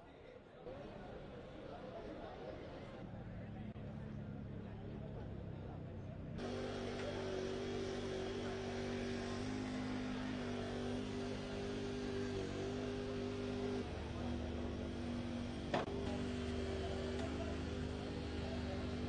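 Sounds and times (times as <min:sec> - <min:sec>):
engine hum: 0:02.7 - 0:19.0.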